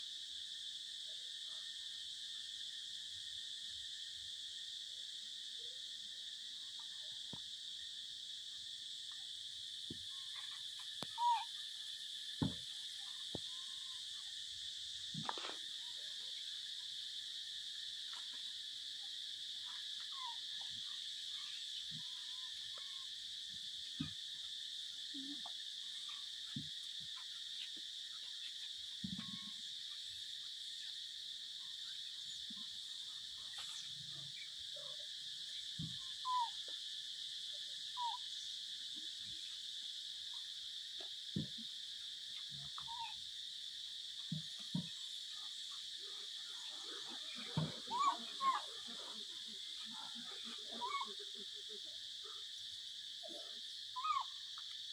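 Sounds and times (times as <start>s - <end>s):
high-pitched insect drone: 0.0s - 54.9s.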